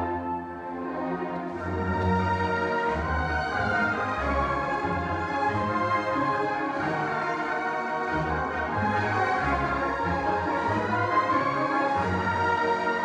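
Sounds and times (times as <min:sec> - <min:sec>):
orchestra playing sustained chords: 0:00.0 - 0:13.0.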